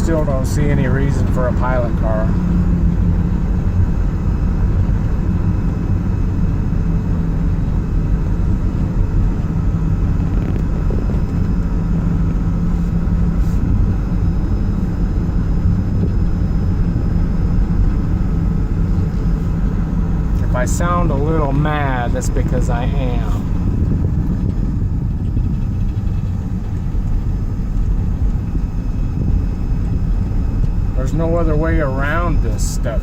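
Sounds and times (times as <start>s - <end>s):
engine and road rumble: 0.0s - 33.0s.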